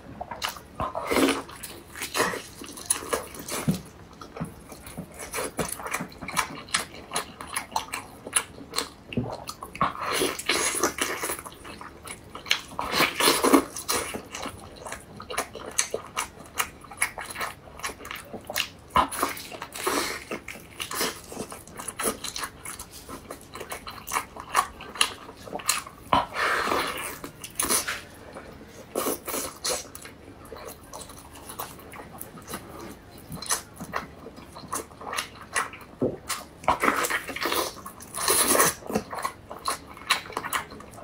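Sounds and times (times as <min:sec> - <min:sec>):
close chewing and biting: 0:00.0 - 0:41.0.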